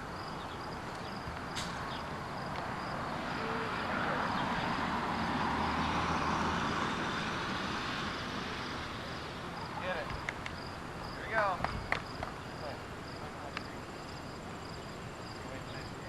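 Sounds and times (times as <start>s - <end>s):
crickets chirping: 0.0s - 16.0s
vehicle passing: 0.0s - 16.0s.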